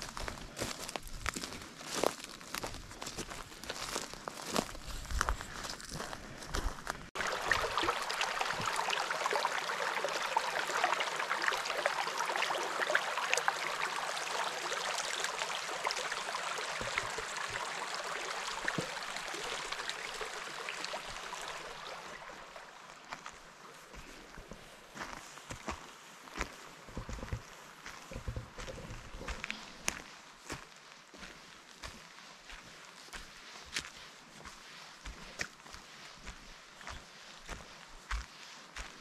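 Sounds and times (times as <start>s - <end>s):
creek running over rocks: 0.0s - 39.0s.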